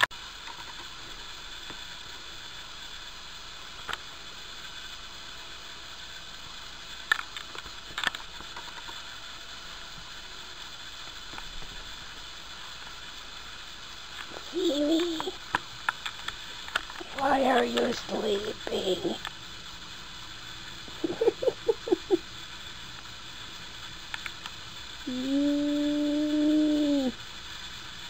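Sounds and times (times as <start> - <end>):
low hiss of room tone: 0.0 - 28.0.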